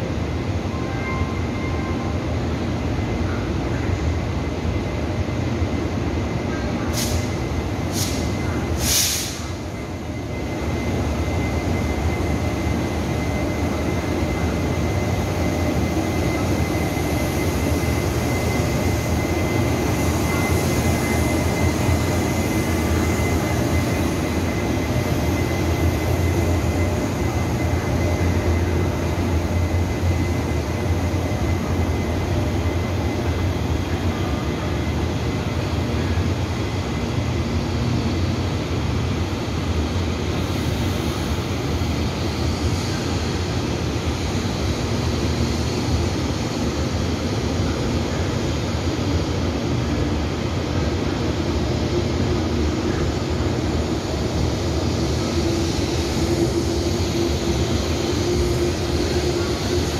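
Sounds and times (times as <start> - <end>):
train rumbling through station: 0.0 - 59.9
thin steady whine: 0.8 - 59.9.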